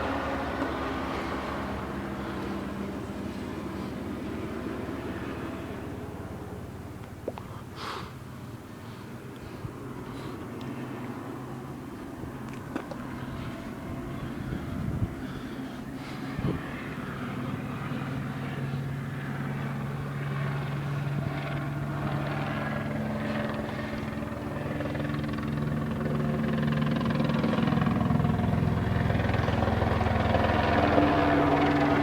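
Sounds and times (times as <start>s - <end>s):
helicopter engine and rotors: 0.0s - 32.0s.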